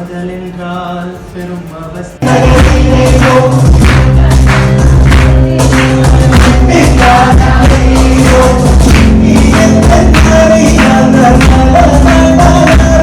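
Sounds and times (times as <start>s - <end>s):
film song with percussion: 0.0s - 13.0s.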